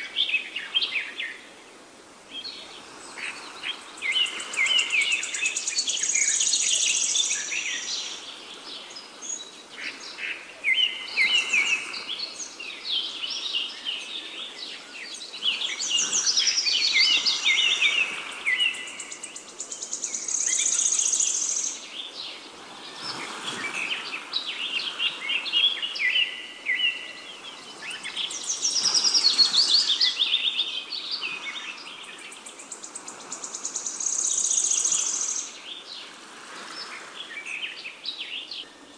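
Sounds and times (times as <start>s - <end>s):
faint steady hiss: 0.0s - 38.9s
birds singing and chirping: 2.3s - 38.9s.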